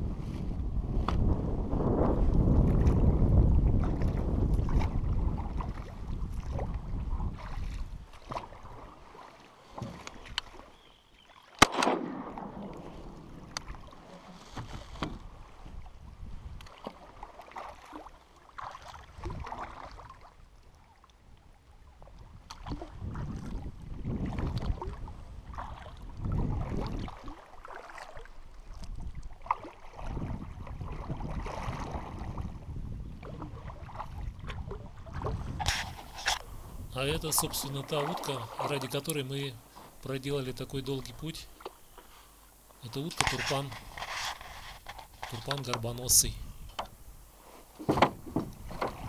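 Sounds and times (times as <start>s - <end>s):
water washing along hull: 0.0s - 42.2s, 42.8s - 49.0s
paddle strokes splashing: 2.0s - 49.0s.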